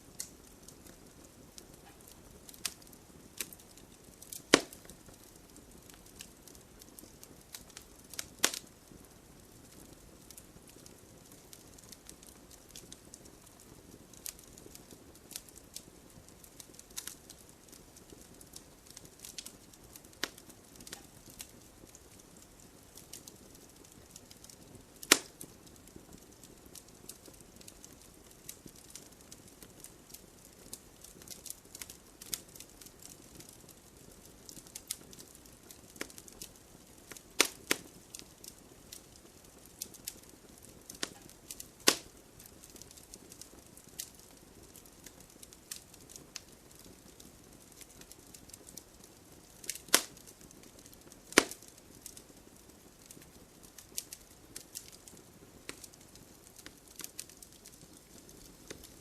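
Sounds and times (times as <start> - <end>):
faint steady hiss: 0.0 - 59.0
fire pops and snaps: 0.0 - 59.0
wood fire crackling: 0.0 - 59.0.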